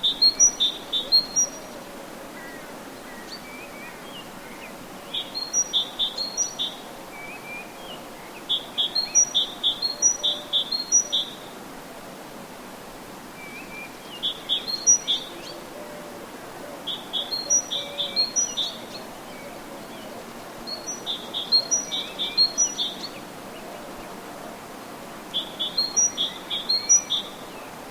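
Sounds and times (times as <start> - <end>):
songbird singing: 0.0 - 1.8, 3.1 - 11.6, 13.4 - 16.0, 16.8 - 24.2, 25.2 - 27.9.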